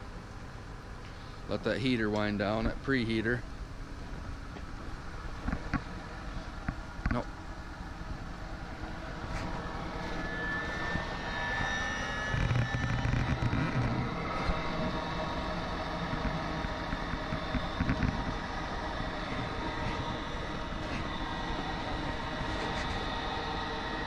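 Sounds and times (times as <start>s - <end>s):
heater blower rush with whine: 0.0s - 24.0s
low rumble: 1.6s - 24.0s.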